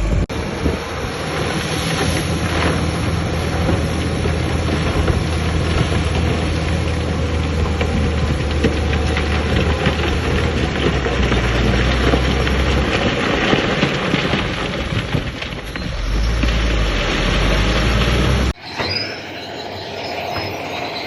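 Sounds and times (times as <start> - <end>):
heavy diesel machine droning: 0.0 - 12.9, 15.8 - 21.0
rocks tumbling and clattering: 0.1 - 19.0.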